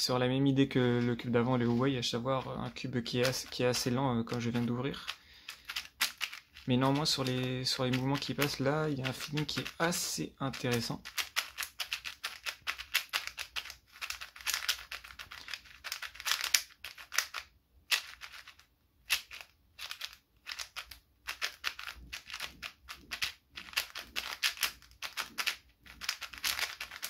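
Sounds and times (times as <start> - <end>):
plastic cube clicking: 3.2 - 27.0.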